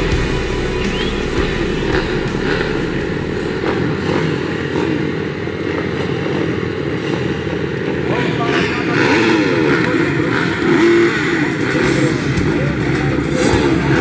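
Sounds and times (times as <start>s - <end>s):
dirt bike engines idling and revving: 0.0s - 14.0s.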